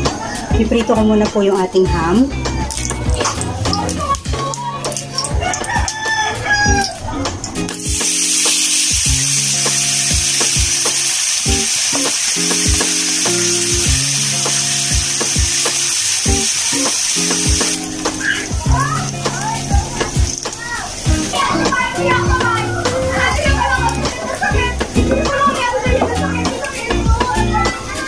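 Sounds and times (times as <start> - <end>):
ham sizzling in hot oil: 1.6 - 28.0.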